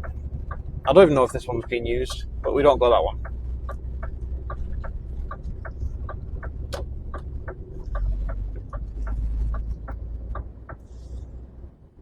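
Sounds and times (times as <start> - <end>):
truck engine rumble: 0.0 - 12.0
turn signal ticking: 0.0 - 12.0.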